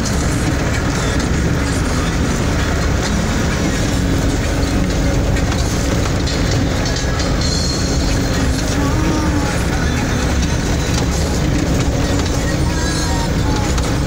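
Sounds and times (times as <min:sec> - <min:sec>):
vehicle body shaking: 0:00.0 - 0:14.0
vehicle rumbling on dirt road: 0:00.0 - 0:14.0.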